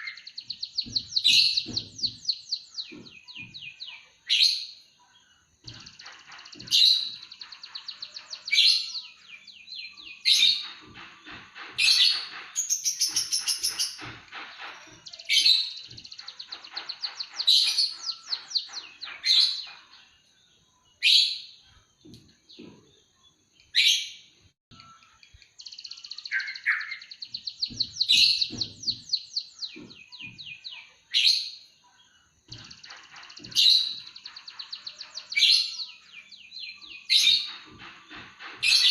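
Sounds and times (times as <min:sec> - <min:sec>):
bird singing trills and chirps: 0:00.0 - 0:38.9.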